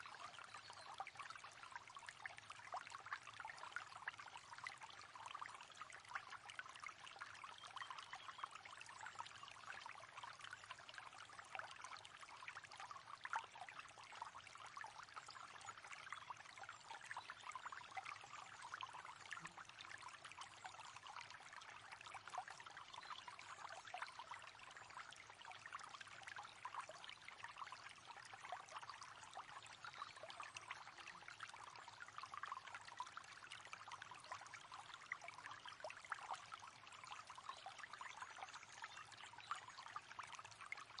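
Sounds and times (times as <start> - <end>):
river water trickling: 0.0 - 41.0.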